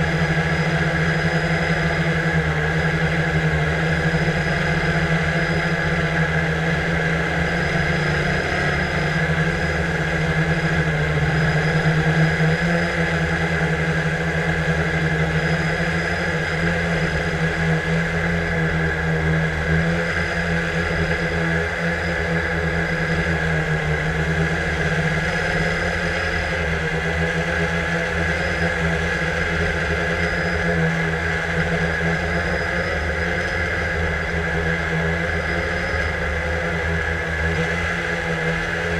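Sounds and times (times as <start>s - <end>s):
drone propellers buzzing: 0.0s - 38.9s.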